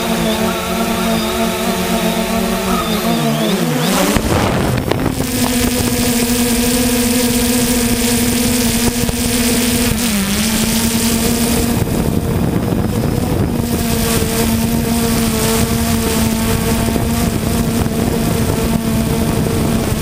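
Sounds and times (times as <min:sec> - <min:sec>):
drone propellers humming: 0:00.0 - 0:20.0
wind rushing over microphone: 0:00.0 - 0:20.0.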